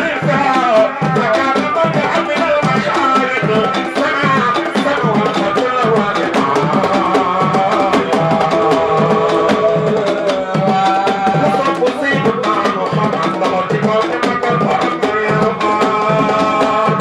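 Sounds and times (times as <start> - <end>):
drums beating: 0.0 - 17.0
man singing into a microphone: 0.0 - 17.0.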